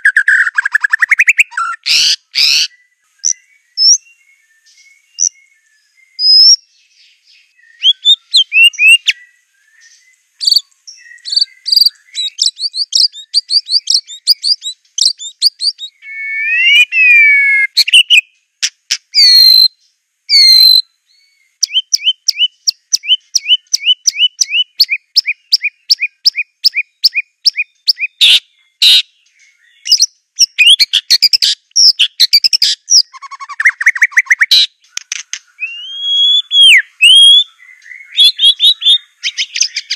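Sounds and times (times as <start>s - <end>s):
songbird singing whistled phrases: 0.0s - 39.9s.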